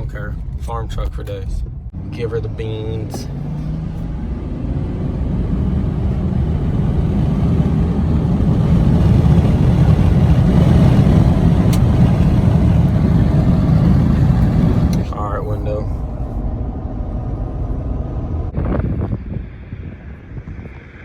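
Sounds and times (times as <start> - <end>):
truck engine accelerating: 0.0 - 21.0.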